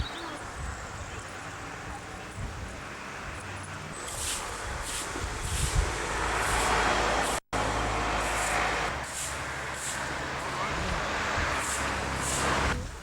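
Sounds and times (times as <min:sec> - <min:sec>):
motor vehicle approaching: 0:00.0 - 0:13.0.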